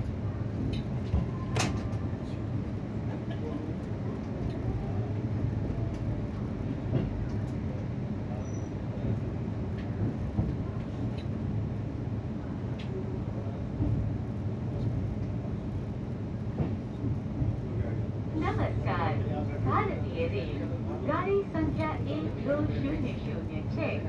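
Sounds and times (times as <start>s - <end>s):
train coach rumbling: 0.0s - 24.0s.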